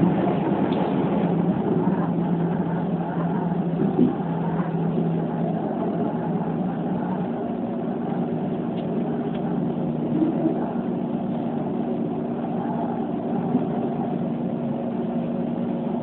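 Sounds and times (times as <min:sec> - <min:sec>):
electric train running rumble: 0:00.0 - 0:16.0
low hum: 0:00.0 - 0:16.0.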